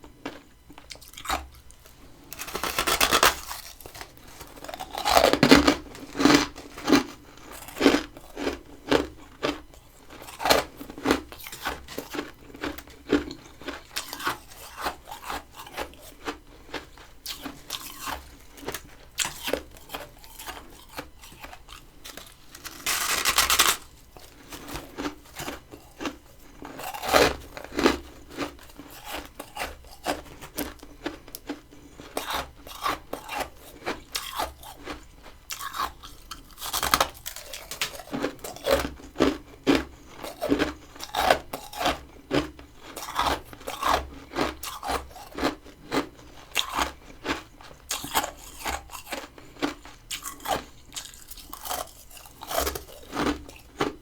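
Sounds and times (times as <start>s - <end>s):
frost being chewed crunching: 0.0s - 54.0s.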